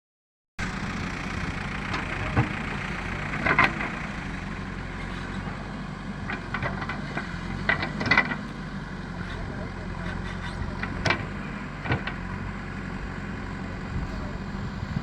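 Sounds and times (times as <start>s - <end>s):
diesel engine running: 0.6s - 15.0s.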